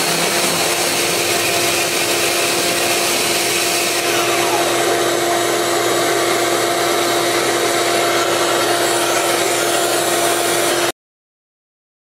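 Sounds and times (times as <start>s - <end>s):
cordless drill cutting with hole saw: 0.0s - 11.0s
vacuum humming: 0.0s - 11.0s.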